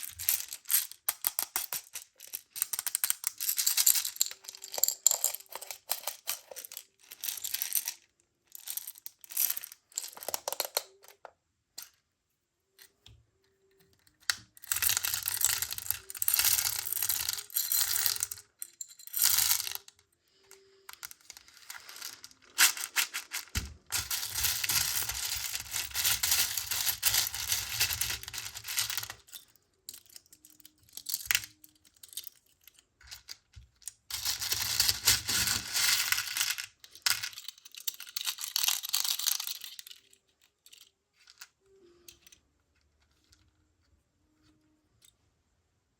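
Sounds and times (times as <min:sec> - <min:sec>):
beads clattering against plastic toy: 0:00.0 - 0:12.0, 0:14.3 - 0:42.3.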